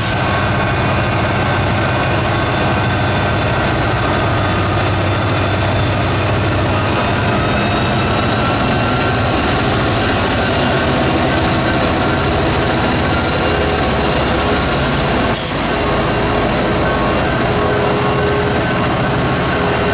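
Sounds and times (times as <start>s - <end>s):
train wheel noise: 0.0s - 19.9s.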